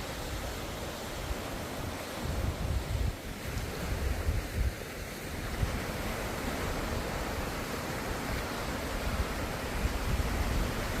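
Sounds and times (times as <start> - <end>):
ocean surf washing: 0.0 - 11.0.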